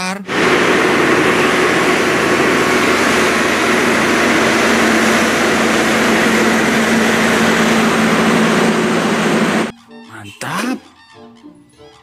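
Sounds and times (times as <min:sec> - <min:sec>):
truck diesel engine droning: 0:00.0 - 0:09.7.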